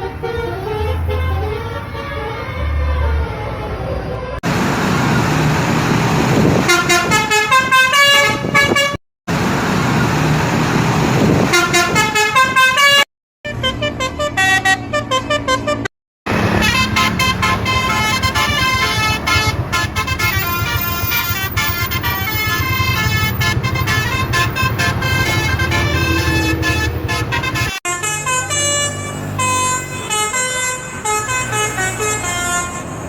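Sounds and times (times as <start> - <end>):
musical bus horns: 0.0 - 4.6, 6.4 - 9.0, 11.2 - 33.0
vehicle noise: 0.0 - 33.0.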